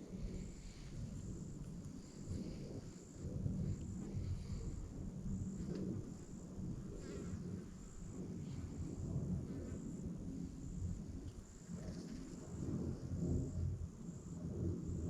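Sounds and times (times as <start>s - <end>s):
insects chirping: 0.0s - 15.0s
low rustling rumble: 0.0s - 15.0s.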